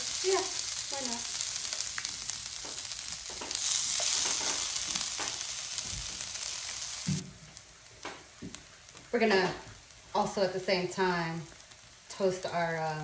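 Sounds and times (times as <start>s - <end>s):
bacon sizzling in a skillet: 0.0s - 13.0s.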